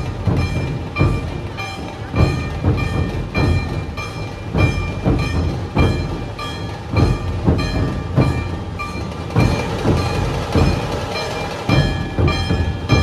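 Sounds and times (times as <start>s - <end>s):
dhol drums beating: 0.0s - 13.0s.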